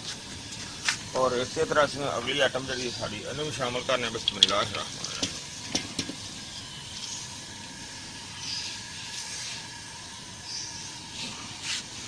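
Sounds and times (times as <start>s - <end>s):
pot of water hissing on stove: 0.0s - 12.0s.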